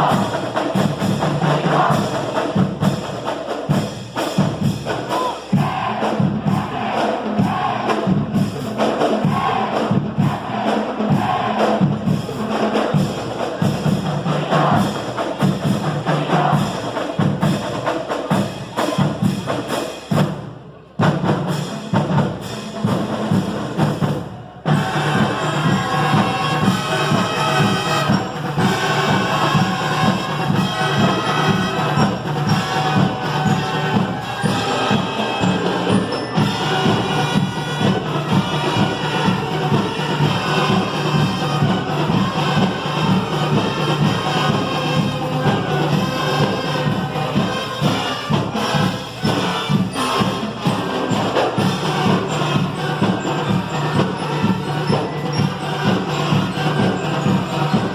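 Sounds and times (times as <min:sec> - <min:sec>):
drums: 0:00.0 - 0:57.9
marching band playing: 0:00.0 - 0:57.9.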